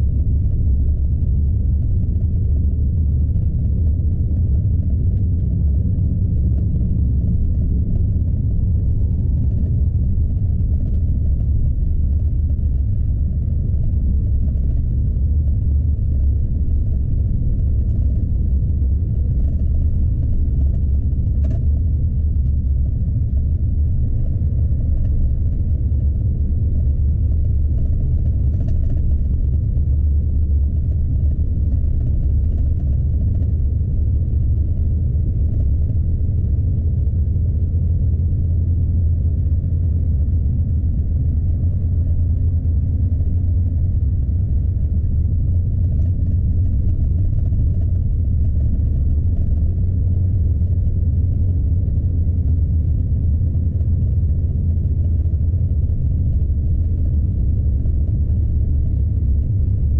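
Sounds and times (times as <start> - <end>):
truck engine rumble: 0.0 - 59.9.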